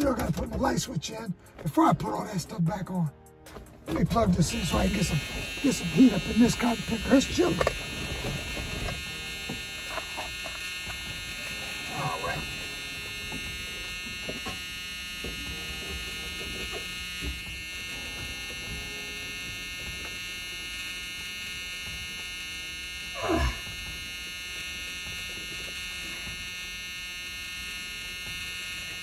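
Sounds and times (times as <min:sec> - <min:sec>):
electrical buzz: 0:03.4 - 0:29.0.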